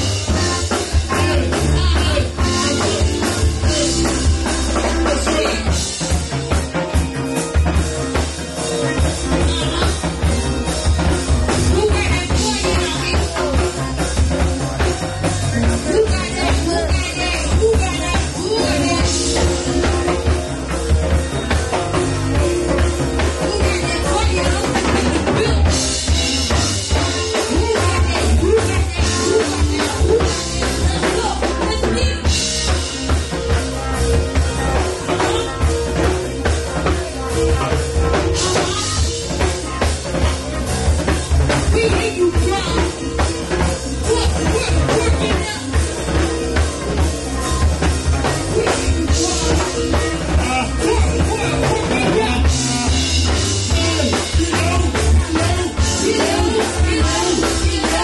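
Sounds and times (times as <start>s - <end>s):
live band music: 0.0s - 58.0s.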